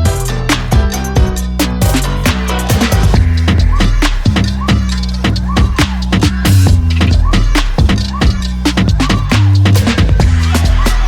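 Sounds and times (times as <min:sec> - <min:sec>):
electronic music with drum beat: 0:00.0 - 0:11.0.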